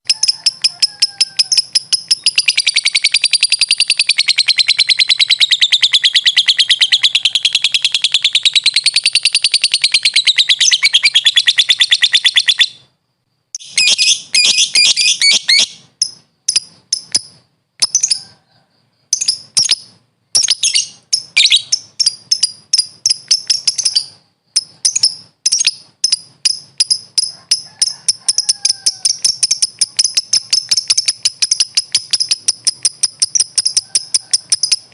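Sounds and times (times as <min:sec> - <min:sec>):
lovebird chattering trill: 0:00.0 - 0:12.9, 0:13.6 - 0:18.4, 0:19.1 - 0:34.9
bird chirps and clicks: 0:00.1 - 0:12.7, 0:13.6 - 0:18.2, 0:19.1 - 0:34.9.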